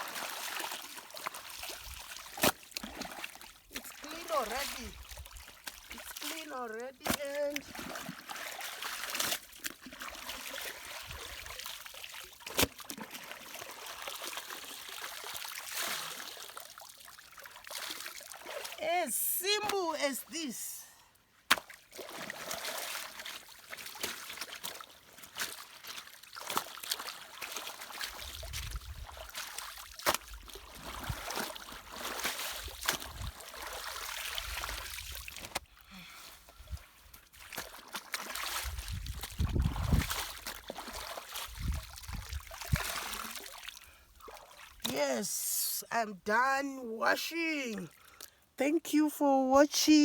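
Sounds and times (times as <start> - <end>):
water splashing and trickling: 0.0 - 50.0.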